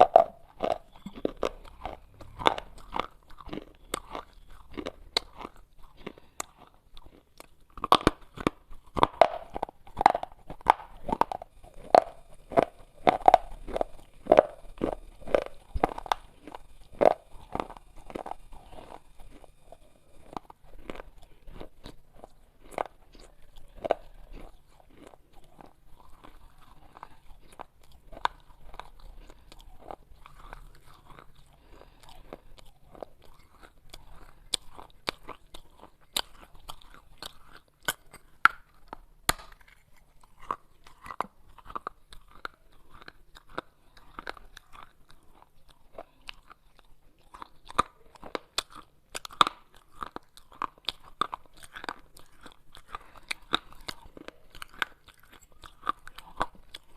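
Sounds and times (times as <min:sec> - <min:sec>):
clay pot pieces being chewed: 0:00.0 - 0:56.9.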